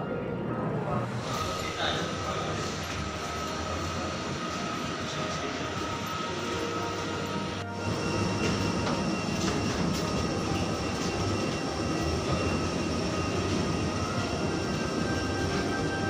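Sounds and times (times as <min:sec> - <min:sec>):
faint high whines: 0:00.0 - 0:16.0
rumbling airport machinery: 0:00.0 - 0:16.0.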